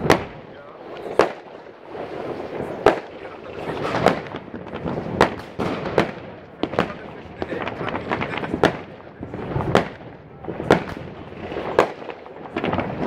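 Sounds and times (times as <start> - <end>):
fireworks bangs: 0.0 - 13.0
fireworks crackling and popping: 0.0 - 13.0.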